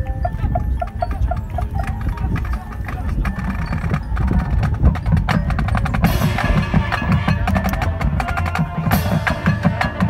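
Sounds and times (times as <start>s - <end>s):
drums and mallet percussion: 0.0s - 10.0s
marching band playing: 0.8s - 10.0s.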